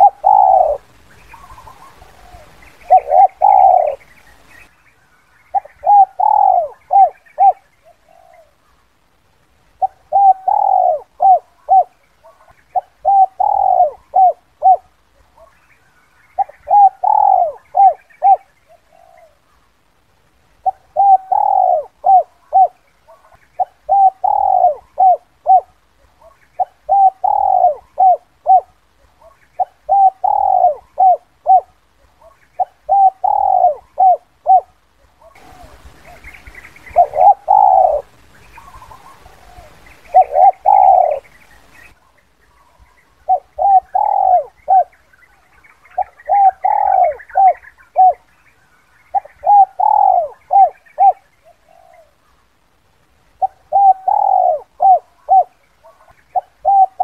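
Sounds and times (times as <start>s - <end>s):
dove cooing: 0.0s - 4.7s, 5.4s - 8.8s, 9.8s - 19.7s, 20.6s - 48.4s, 49.0s - 52.4s, 53.4s - 57.0s.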